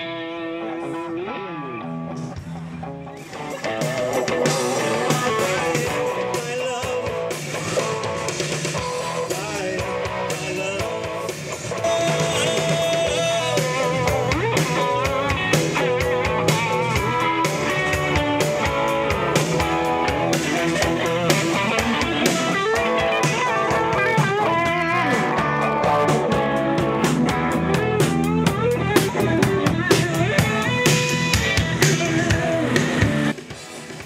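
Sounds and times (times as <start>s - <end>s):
lead guitar bent notes: 0.0s - 33.4s
rock band playing: 0.0s - 34.0s.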